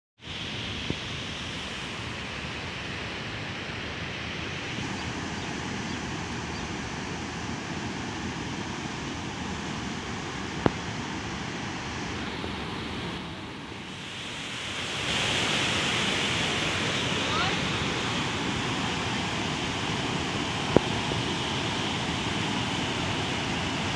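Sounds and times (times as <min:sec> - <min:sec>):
floodwater rushing: 0:00.5 - 0:23.9.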